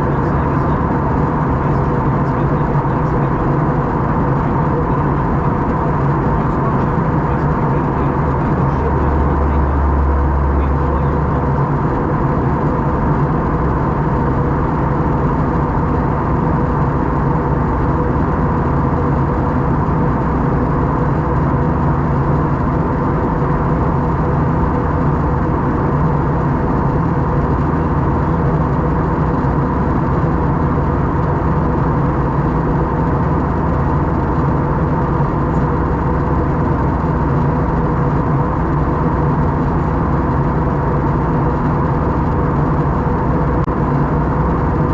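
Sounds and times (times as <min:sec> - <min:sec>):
aircraft cabin engine drone: 0:00.0 - 0:44.9.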